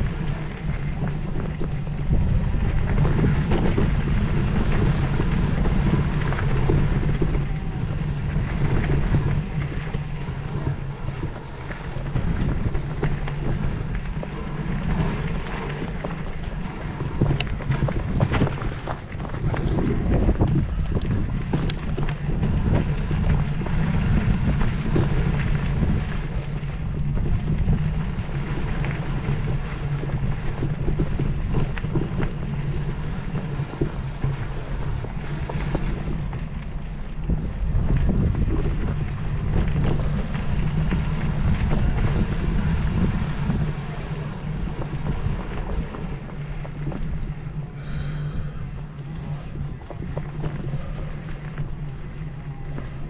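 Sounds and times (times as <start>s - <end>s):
low engine drone: 0.0s - 53.0s
wind buffeting microphone: 0.0s - 53.0s.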